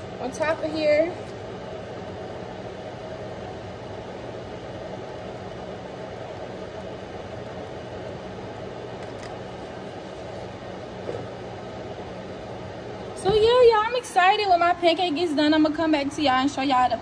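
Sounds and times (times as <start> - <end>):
range hood fan rushing: 0.0 - 17.0.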